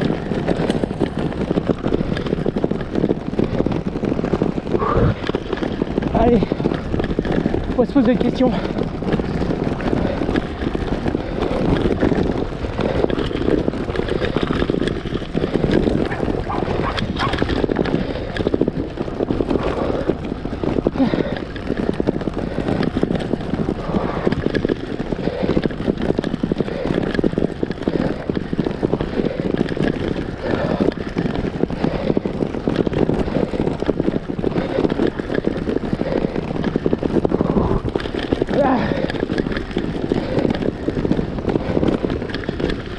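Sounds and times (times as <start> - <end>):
bike rattling over cobblestones: 0.0 - 42.9.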